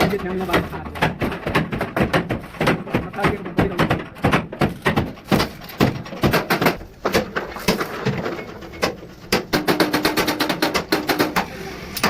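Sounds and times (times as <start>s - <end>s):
sharp knocks on metal: 0.0s - 11.5s.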